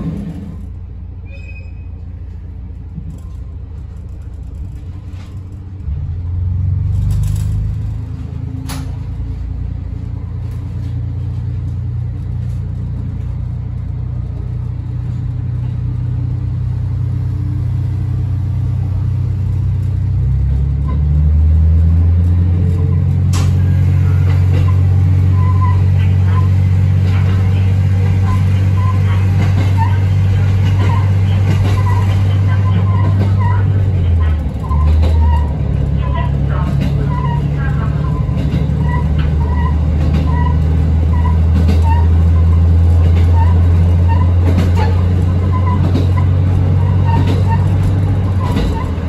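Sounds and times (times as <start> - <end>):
diesel train engine droning: 0.0 - 49.0.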